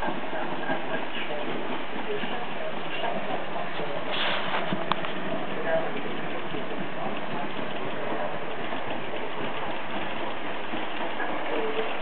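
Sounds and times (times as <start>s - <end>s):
model locomotive diesel engine: 0.0s - 12.0s.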